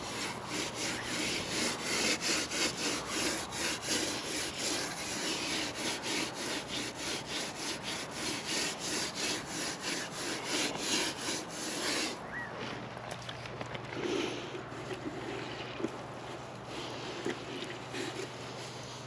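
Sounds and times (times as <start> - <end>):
sponge rubbing on mortar: 0.0 - 12.2, 14.0 - 19.0.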